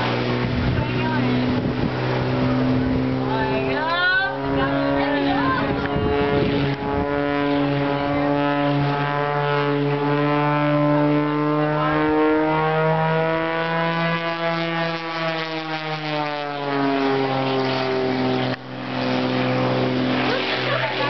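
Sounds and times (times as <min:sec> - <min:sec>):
propeller airplane droning overhead: 0:00.0 - 0:21.0.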